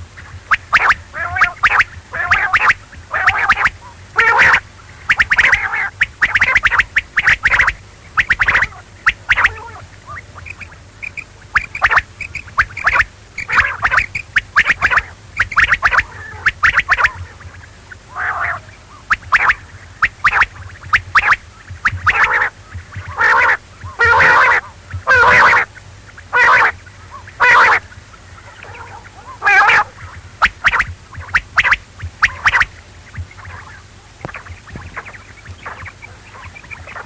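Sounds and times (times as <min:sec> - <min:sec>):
low steady hum: 0:00.0 - 0:37.0
quail calling: 0:00.0 - 0:37.0.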